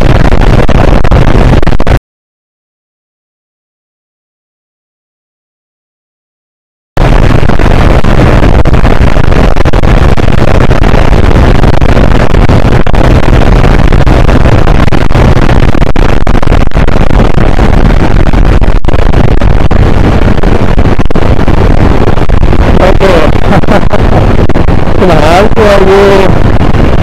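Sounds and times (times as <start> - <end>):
wind rush on microphone: 0.0 - 2.0, 7.0 - 27.0.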